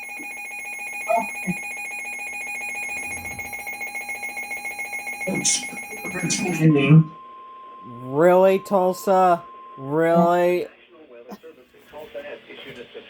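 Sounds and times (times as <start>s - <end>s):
high-pitched electronic alarm buzzer: 0.0s - 10.7s.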